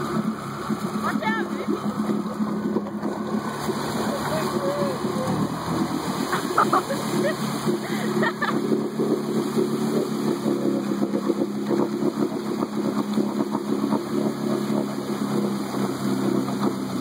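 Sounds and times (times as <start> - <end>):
quad engine at steady revs: 0.0 - 17.0
wheels spinning in mud: 0.0 - 17.0.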